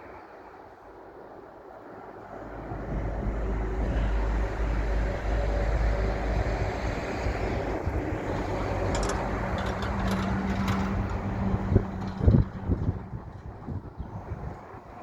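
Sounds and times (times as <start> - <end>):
train rumbling: 2.2 - 15.0.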